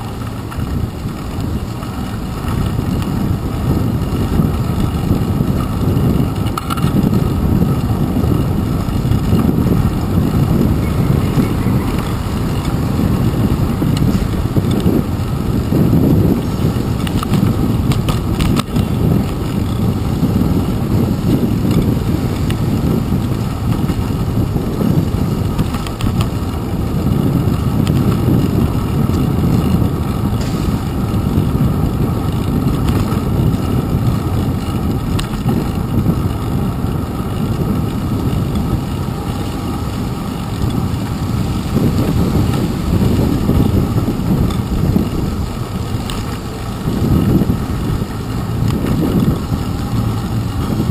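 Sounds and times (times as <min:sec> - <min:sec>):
bicycle road noise rumble: 0:00.0 - 0:50.9.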